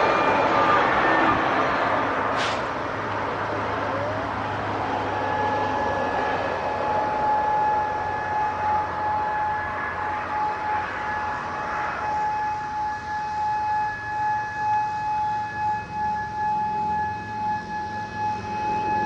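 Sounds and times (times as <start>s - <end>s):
electronic siren alert tone: 0.0s - 2.2s, 3.4s - 19.0s
broad background roar: 0.0s - 19.0s.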